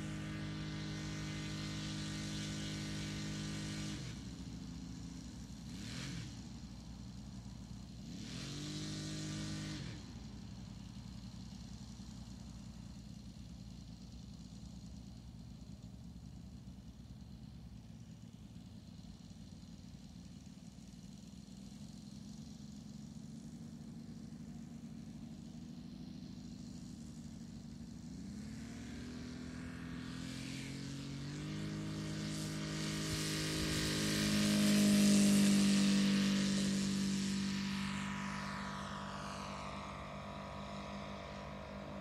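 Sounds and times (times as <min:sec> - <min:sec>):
model aircraft engine: 0:00.0 - 0:42.0.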